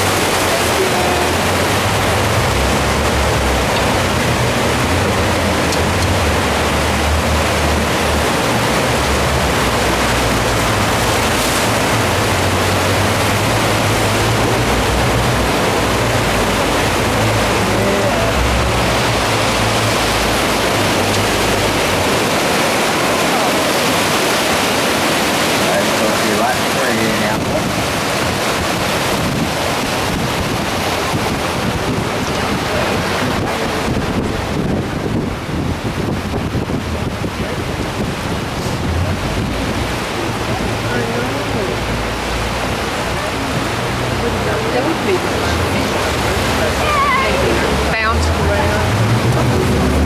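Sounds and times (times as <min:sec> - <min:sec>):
boat engines droning: 0:00.0 - 0:50.0
rush of water and wind: 0:00.0 - 0:50.0.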